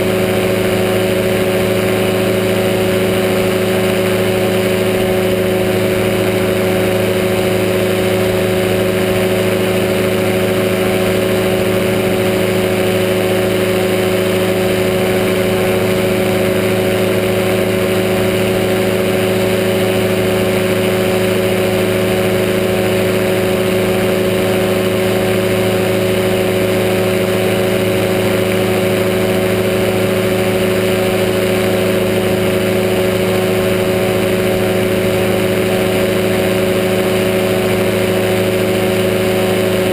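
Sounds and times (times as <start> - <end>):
engine and propeller drone: 0.0 - 39.9.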